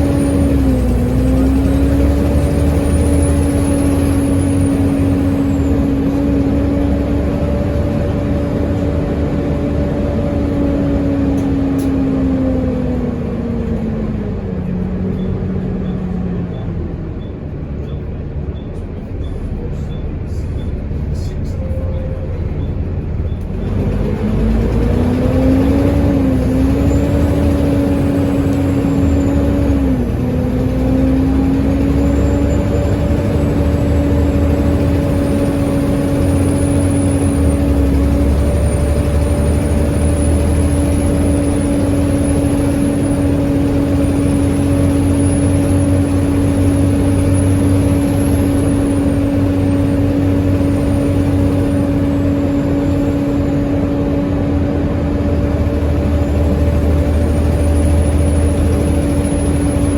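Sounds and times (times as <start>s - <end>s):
bus drivetrain whining: 0.0s - 59.9s
low engine rumble: 0.0s - 59.9s.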